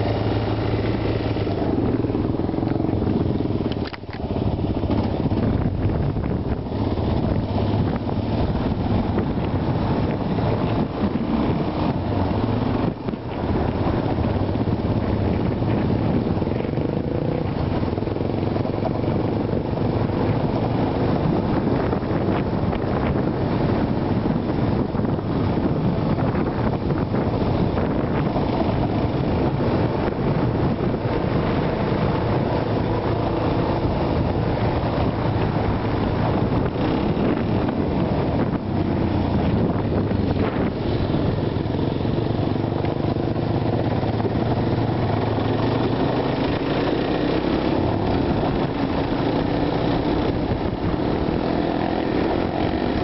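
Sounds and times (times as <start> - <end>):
quad bike engine running: 0.0 - 53.0
rushing noise: 0.0 - 53.0.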